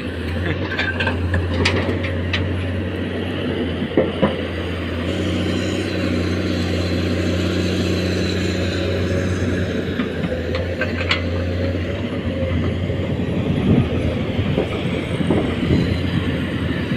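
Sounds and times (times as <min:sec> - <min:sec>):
diesel engines running: 0:00.0 - 0:16.9
pitched engine drone: 0:00.0 - 0:16.9.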